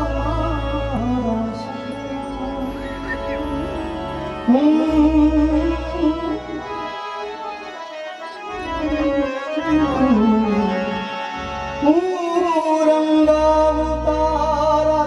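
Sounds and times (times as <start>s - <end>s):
harmonium and tabla: 0.0s - 15.0s
person singing long gliding notes: 0.0s - 15.0s.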